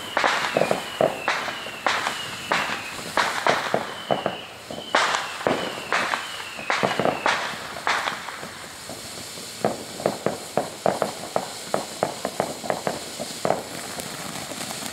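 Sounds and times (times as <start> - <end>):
fireworks crackling: 0.0 - 14.9
fireworks falling whistle: 0.0 - 14.9
fireworks pops and bangs: 0.0 - 14.9.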